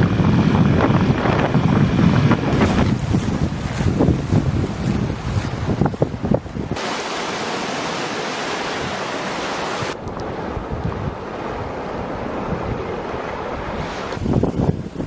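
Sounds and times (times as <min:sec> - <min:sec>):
wind buffeting microphone: 0:00.0 - 0:06.8, 0:08.3 - 0:15.0.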